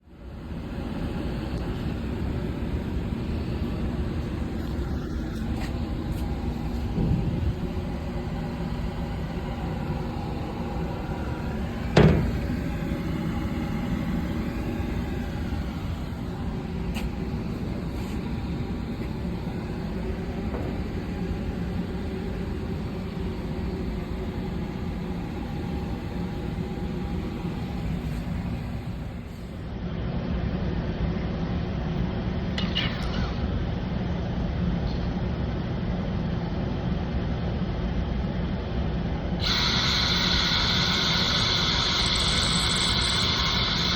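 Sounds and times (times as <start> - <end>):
engine drone: 0.0 - 36.5, 37.9 - 43.9.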